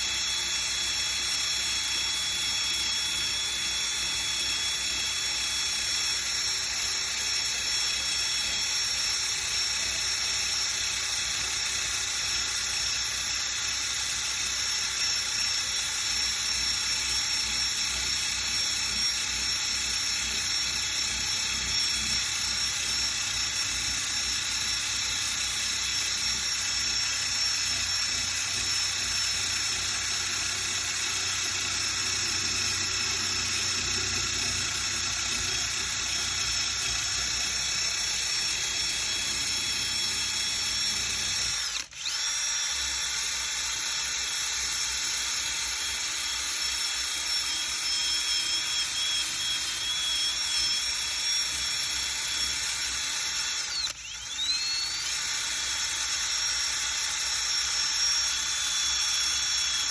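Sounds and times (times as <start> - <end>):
power sander whining on metal: 0.0 - 59.9.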